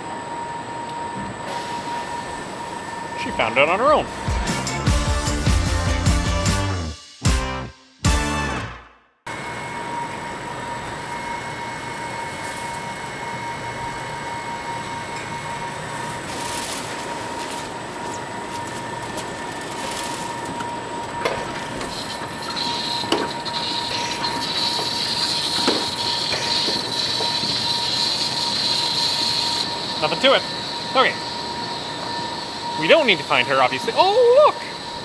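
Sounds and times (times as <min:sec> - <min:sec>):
barn machinery drone: 0:00.0 - 0:35.0.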